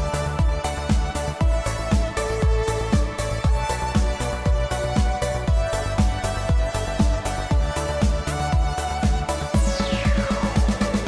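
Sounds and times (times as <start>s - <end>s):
kick drum beating: 0.0s - 10.8s
upbeat electronic music: 0.0s - 11.0s.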